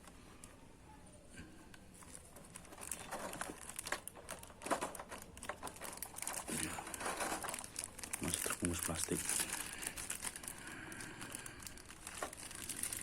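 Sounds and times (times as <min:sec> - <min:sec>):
plastic packaging crinkling: 0:01.9 - 0:13.0.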